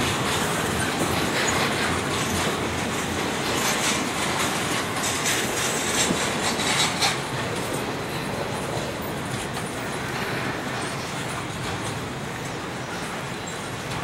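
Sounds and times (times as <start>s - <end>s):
train wheels rolling on rail: 0.0s - 14.0s.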